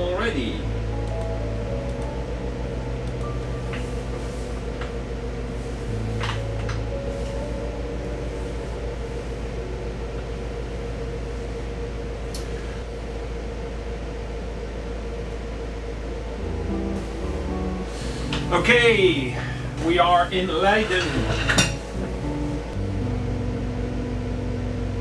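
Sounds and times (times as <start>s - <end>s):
soft background music: 0.0s - 12.3s, 16.4s - 25.0s
boat diesel engine droning: 0.0s - 25.0s.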